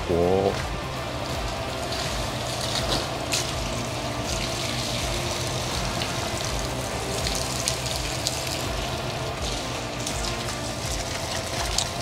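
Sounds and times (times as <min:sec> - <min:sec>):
water splashing on windshield: 0:00.5 - 0:12.0.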